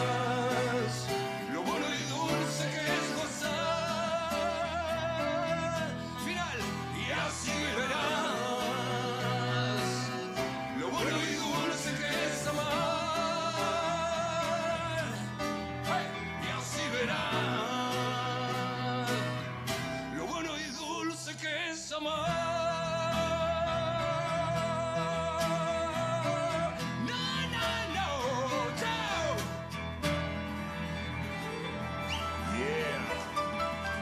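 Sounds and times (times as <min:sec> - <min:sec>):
acoustic guitar strumming: 0:00.0 - 0:21.1, 0:22.2 - 0:34.0
man singing: 0:00.0 - 0:29.8, 0:32.3 - 0:33.8.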